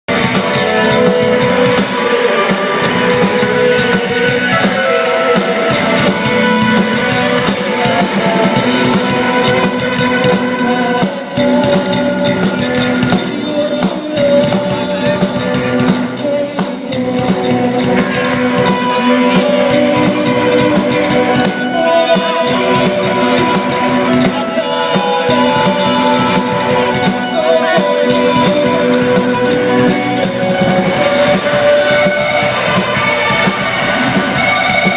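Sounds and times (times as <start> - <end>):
distorted electric guitars: 0.0 - 34.9
drum kit: 0.0 - 34.9
person singing: 0.0 - 34.9.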